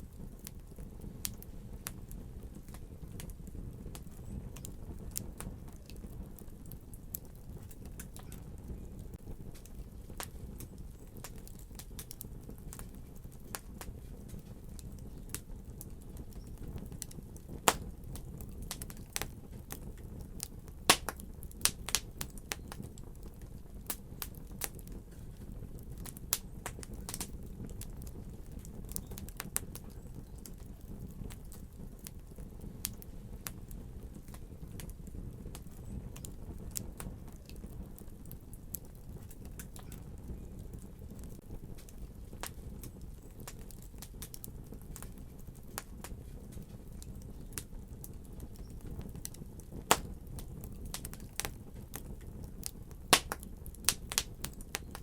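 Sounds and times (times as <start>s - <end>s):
rush of flame: 0.0s - 55.0s
wood fire crackling and popping: 0.0s - 55.0s.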